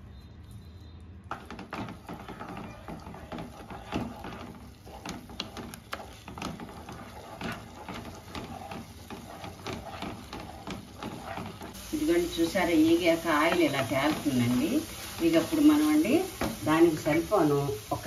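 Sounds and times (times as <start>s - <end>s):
wooden spatula scraping pan: 1.3s - 18.0s.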